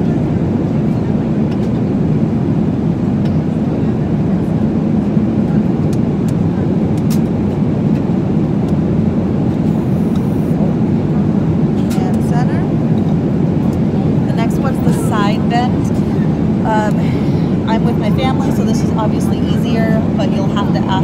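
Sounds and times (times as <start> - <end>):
airliner cabin drone: 0.0 - 21.0.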